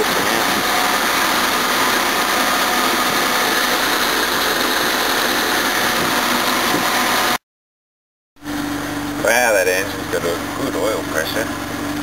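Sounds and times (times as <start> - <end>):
car engine idling: 0.0 - 7.4, 8.4 - 12.0.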